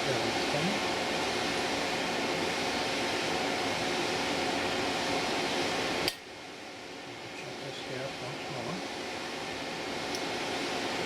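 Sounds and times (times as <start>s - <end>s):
fan whirring: 0.0s - 11.0s.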